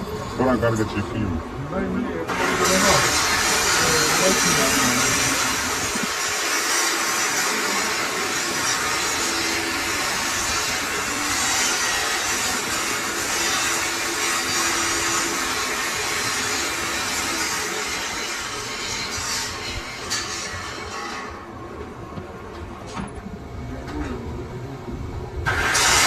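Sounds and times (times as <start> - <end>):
workshop machine hissing and whirring: 0.0 - 26.0.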